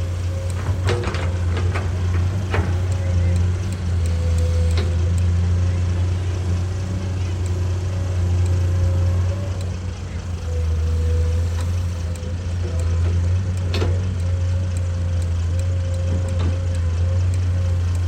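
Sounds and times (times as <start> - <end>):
excavator diesel engine running: 0.0 - 18.0
hydraulic whine: 0.0 - 18.0.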